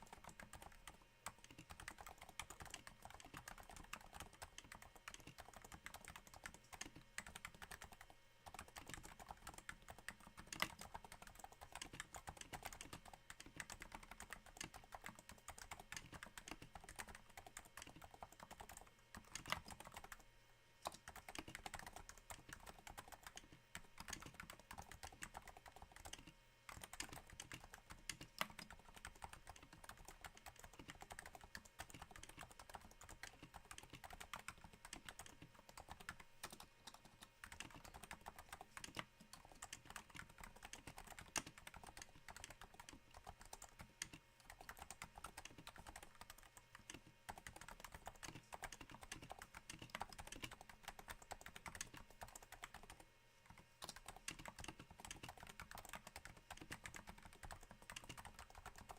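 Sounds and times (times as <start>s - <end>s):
soft keyboard typing: 0.0s - 58.9s.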